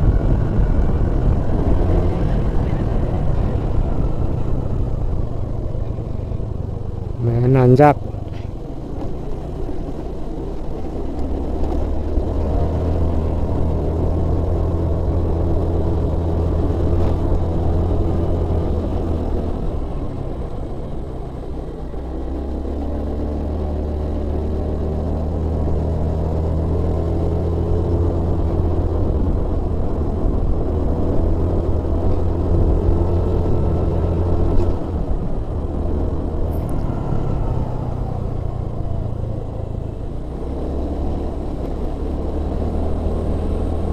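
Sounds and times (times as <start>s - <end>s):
vehicle engine under load: 0.0s - 43.9s.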